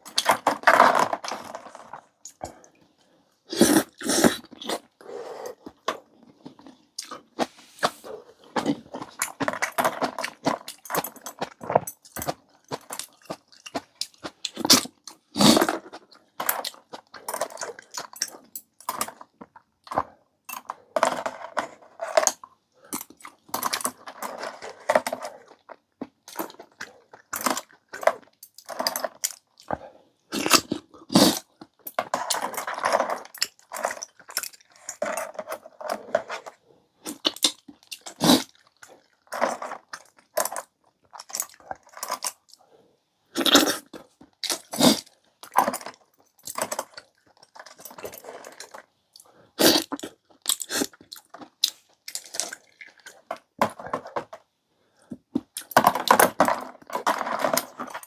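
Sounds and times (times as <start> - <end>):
chewing and crunching: 3.5 - 42.7, 43.4 - 54.4.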